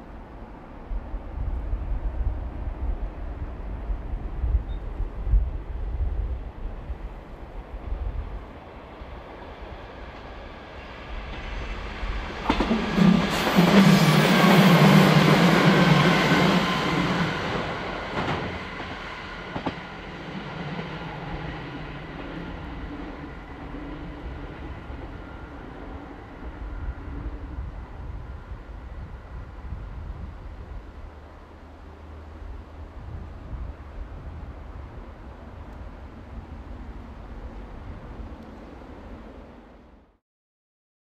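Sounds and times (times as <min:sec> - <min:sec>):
diesel railcar passing: 0:00.0 - 0:40.2.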